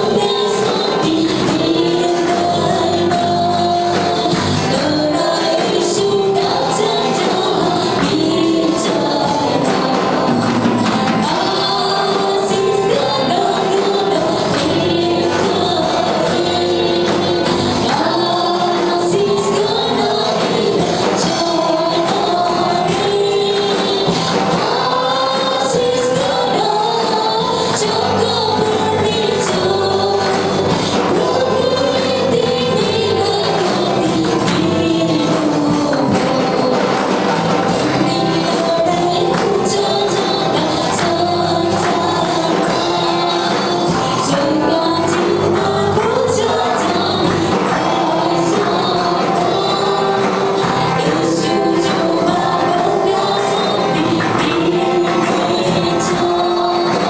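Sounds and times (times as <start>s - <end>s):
amplified band with percussion: 0.0s - 57.0s
group singing into microphones: 0.0s - 57.0s.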